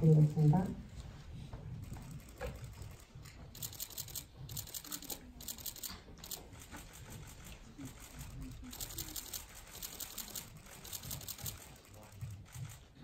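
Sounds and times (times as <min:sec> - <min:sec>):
rapid rustling and crackling: 0:00.9 - 0:13.0.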